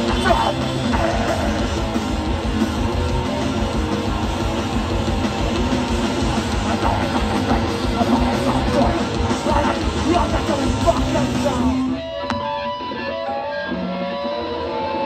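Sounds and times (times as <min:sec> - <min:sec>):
driving drum kit: 0:00.0 - 0:13.2
distorted guitars and bass: 0:00.0 - 0:15.0.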